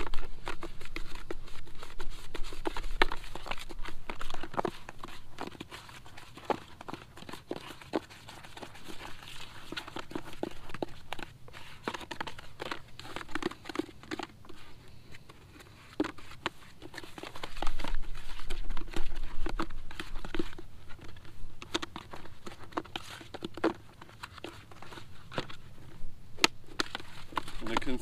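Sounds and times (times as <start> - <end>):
wet bait mix crackling in bucket: 0.0 - 28.0.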